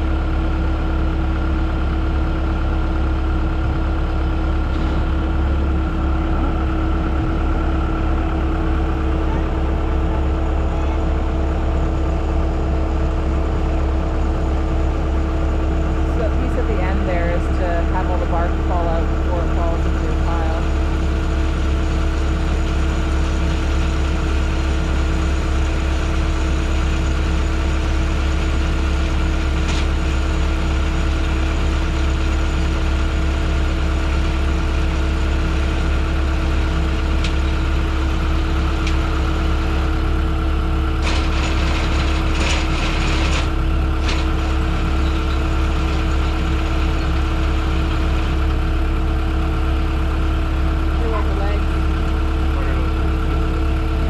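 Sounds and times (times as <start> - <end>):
wood processor engine running: 0.0 - 54.0.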